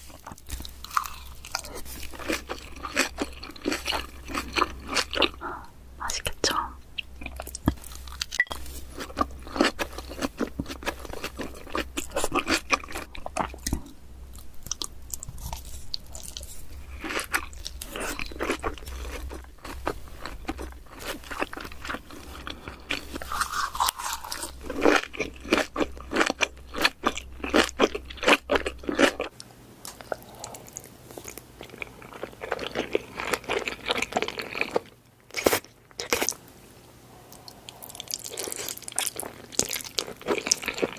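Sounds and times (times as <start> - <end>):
person crunching and chewing food: 0.0 - 36.4, 37.2 - 40.9
low steady hum: 0.0 - 40.9.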